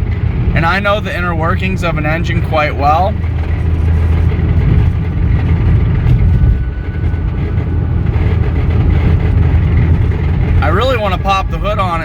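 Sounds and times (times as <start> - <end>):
car engine knocking: 0.0 - 12.0.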